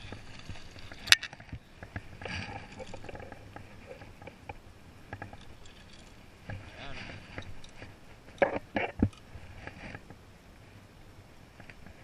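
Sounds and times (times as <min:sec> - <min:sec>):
handling noise: 0:00.0 - 0:10.2.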